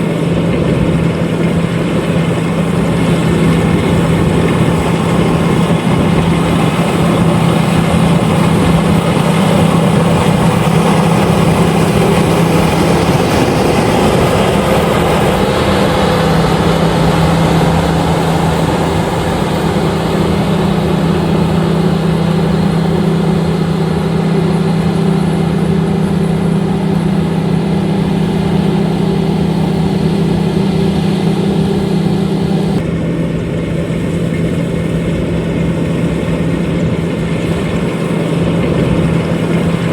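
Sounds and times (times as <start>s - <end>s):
combine harvester engine drone: 0.0s - 39.9s
machinery rushing noise: 0.0s - 39.9s.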